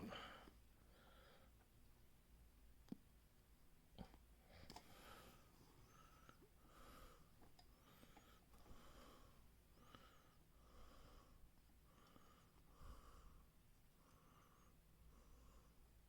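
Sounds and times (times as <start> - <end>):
person breathing: 0.0 - 1.6, 4.4 - 16.0.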